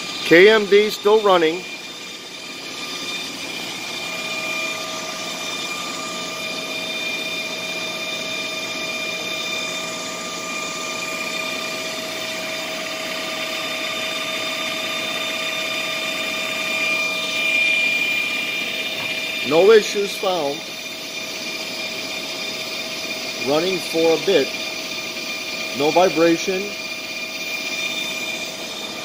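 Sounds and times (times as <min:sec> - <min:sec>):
gear whining tones: 0:00.0 - 0:29.0.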